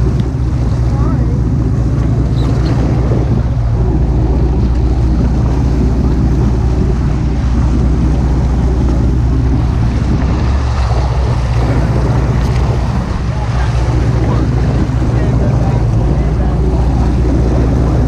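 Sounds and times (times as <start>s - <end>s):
boat engine humming: 0.0s - 18.0s
wind buffeting microphone: 0.0s - 18.0s.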